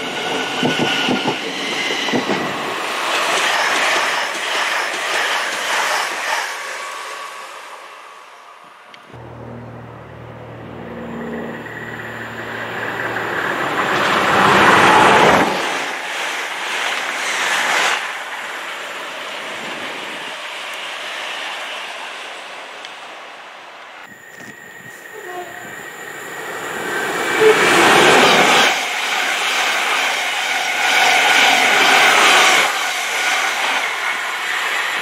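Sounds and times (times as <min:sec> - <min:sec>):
express train passing at speed: 0:00.0 - 0:35.0.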